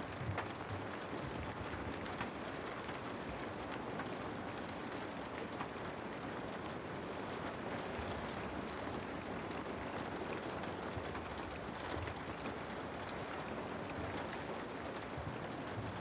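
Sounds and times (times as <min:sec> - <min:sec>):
hiss of rainfall: 0:00.0 - 0:16.0
raindrop ticks: 0:00.0 - 0:16.0.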